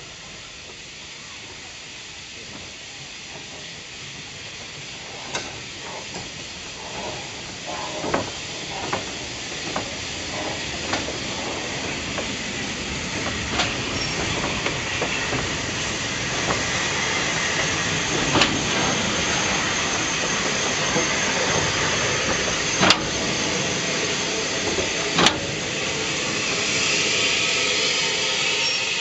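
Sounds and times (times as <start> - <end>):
hiss of escaping steam: 0.0 - 29.0.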